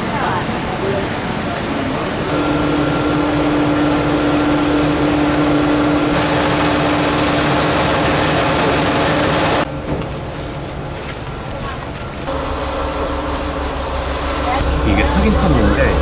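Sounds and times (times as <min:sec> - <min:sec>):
diesel train engine idling: 0:00.3 - 0:09.8, 0:12.3 - 0:16.0.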